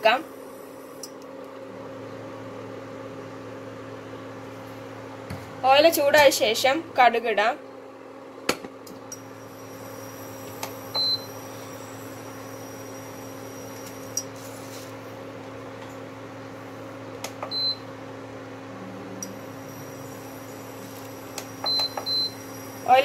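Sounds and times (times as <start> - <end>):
cooktop electrical hum: 0.0 - 23.0.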